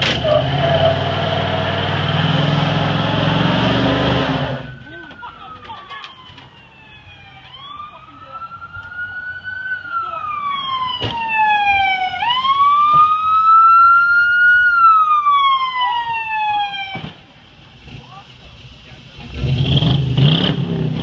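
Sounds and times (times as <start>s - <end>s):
police siren wailing: 0.2s - 17.1s.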